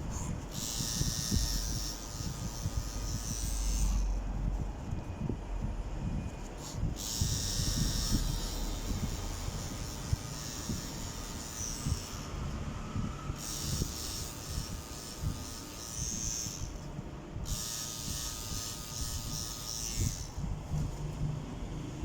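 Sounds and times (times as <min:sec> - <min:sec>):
tattoo machine buzzing: 0:00.0 - 0:04.6, 0:06.3 - 0:21.0.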